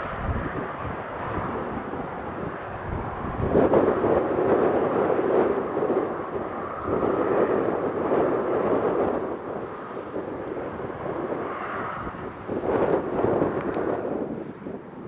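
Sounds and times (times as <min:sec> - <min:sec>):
gusting wind buffeting microphone: 0:00.0 - 0:15.0.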